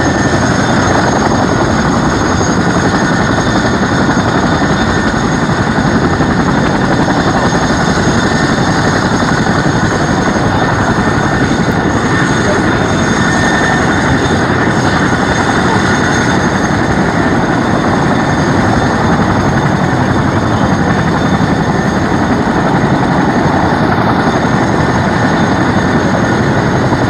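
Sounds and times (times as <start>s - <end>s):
helicopter rotors and engines: 0.0s - 27.0s.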